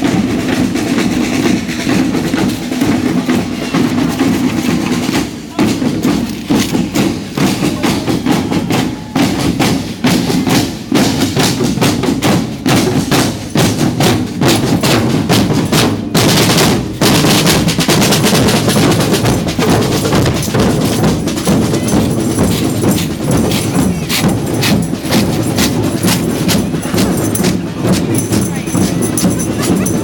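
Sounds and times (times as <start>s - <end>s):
marching drum band: 0.0s - 30.0s.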